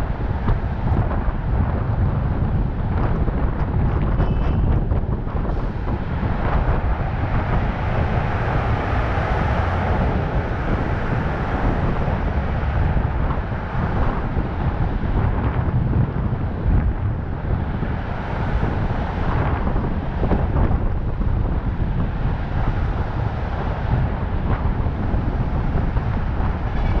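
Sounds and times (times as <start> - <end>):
vehicle road rumble: 0.0 - 27.0
wind buffeting microphone: 0.0 - 27.0.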